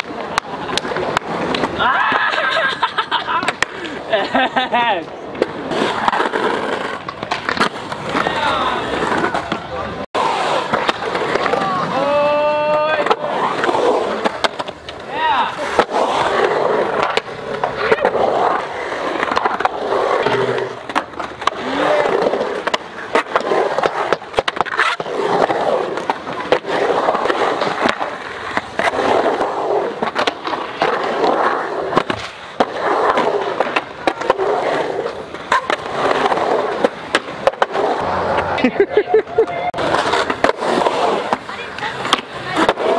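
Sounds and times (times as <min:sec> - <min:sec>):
skateboard clacks: 0:00.0 - 0:42.9
skateboard wheels rolling on concrete: 0:00.0 - 0:42.9.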